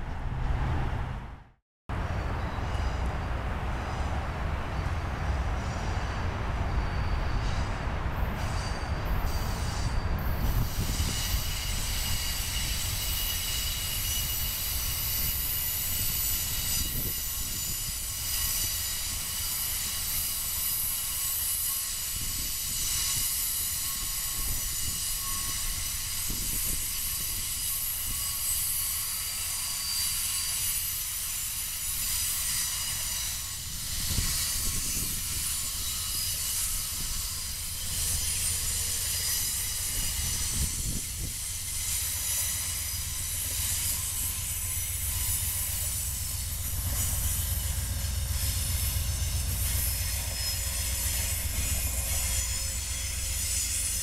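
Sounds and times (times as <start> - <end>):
train cars rumbling: 0.0 - 54.0
train wheels squealing and hissing: 2.1 - 54.0.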